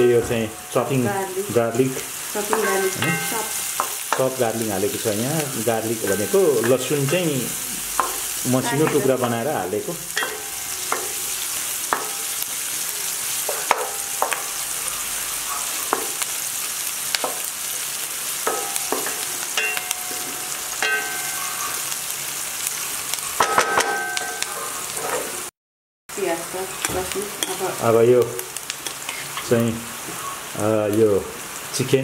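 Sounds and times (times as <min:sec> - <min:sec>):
onions sizzling in oil: 0:00.0 - 0:25.5, 0:26.1 - 0:32.0.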